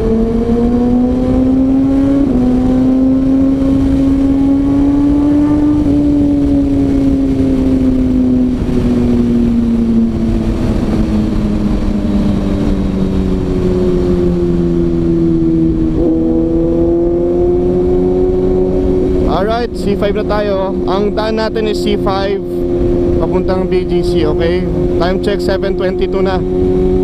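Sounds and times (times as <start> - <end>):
motorcycle engine running: 0.0 - 27.0
wind rushing on microphone: 0.0 - 27.0.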